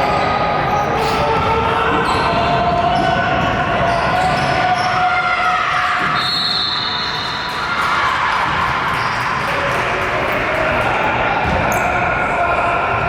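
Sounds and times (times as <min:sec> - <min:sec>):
players' voices: 0:00.0 - 0:13.0.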